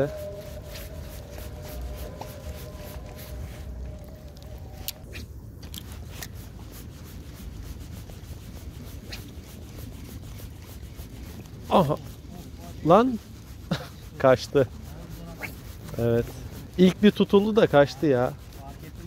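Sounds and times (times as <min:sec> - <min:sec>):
faint steady hum: 0:00.0 - 0:17.4
fishing reel clicking and rubbing: 0:00.0 - 0:19.0
wind rumble on microphone: 0:00.0 - 0:19.0.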